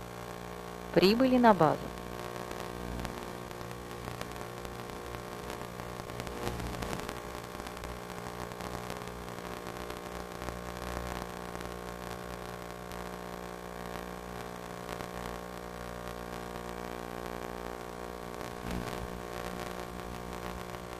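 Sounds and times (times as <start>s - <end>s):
static hiss: 0.0s - 20.9s.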